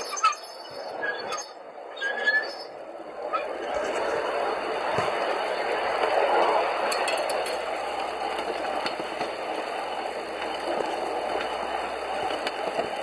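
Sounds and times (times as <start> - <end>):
rail car wheels rattling on track: 0.0 - 13.0.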